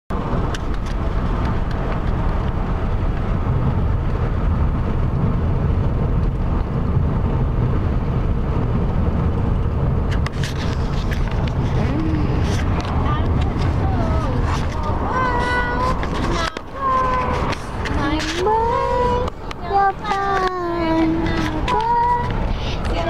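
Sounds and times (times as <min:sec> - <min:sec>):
road and engine rumble: 0:00.1 - 0:23.0.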